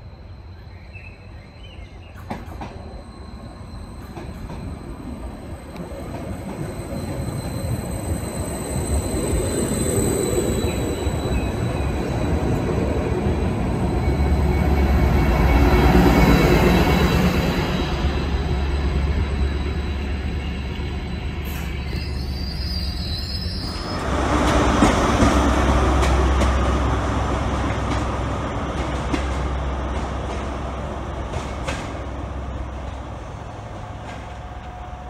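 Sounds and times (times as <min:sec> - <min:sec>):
train engine rumble: 0:00.0 - 0:35.0
train rumbling: 0:00.0 - 0:35.0
train wheel noise: 0:02.0 - 0:35.0.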